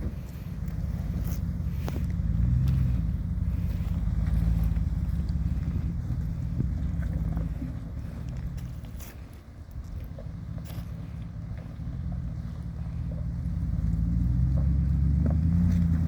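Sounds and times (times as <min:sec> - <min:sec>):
vehicle engine running low: 0:00.0 - 0:16.0.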